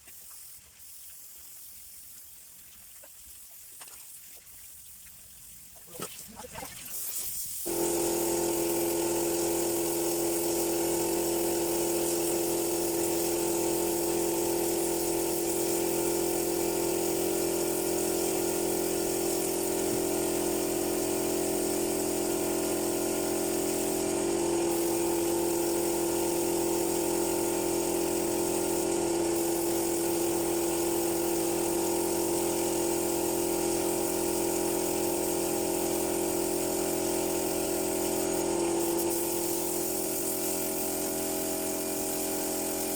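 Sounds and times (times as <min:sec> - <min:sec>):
hiss: 0:00.0 - 0:02.5, 0:06.8 - 0:42.9
small electric motor humming: 0:07.7 - 0:42.9.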